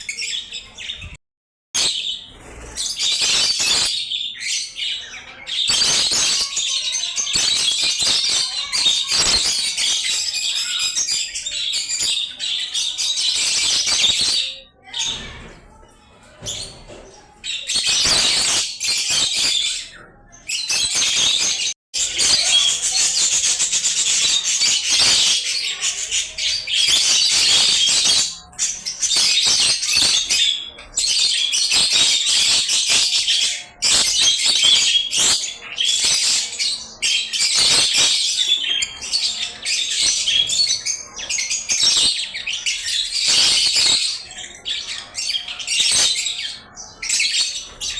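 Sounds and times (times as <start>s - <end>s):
lovebirds chattering and squawking: 1.8s - 47.9s.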